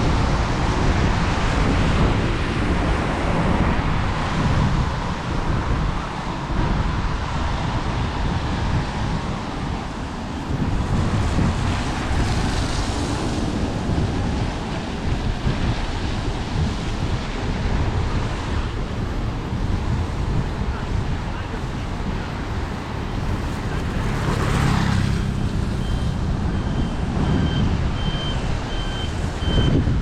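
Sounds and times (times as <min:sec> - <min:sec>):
city traffic noise: 0:00.0 - 0:30.0
wind buffeting microphone: 0:00.0 - 0:30.0.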